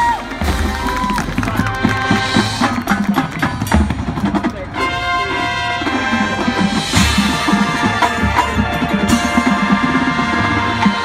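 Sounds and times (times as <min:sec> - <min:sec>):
marching band playing: 0:00.0 - 0:11.0.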